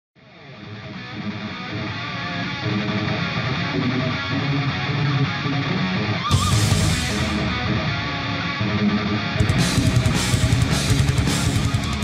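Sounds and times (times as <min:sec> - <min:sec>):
guitar background music: 0:00.2 - 0:12.0.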